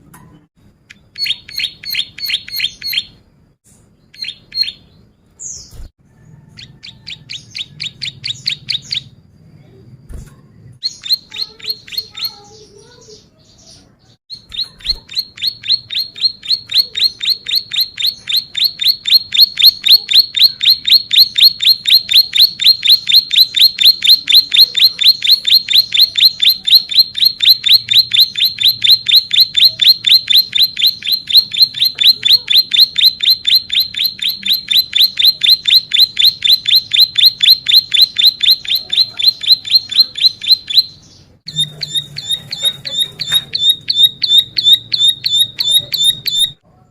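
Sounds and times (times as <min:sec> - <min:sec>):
bird chirping: 0:00.3 - 0:03.3, 0:04.0 - 0:46.6.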